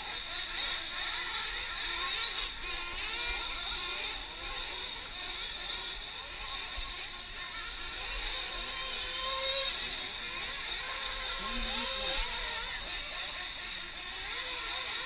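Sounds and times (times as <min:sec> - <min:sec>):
small engines buzzing: 0:00.0 - 0:15.0.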